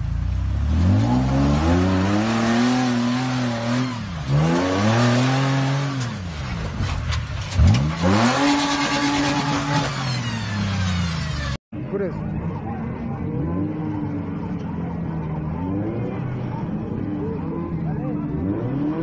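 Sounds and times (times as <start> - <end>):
engine revving: 0.0 - 11.6, 13.1 - 19.0.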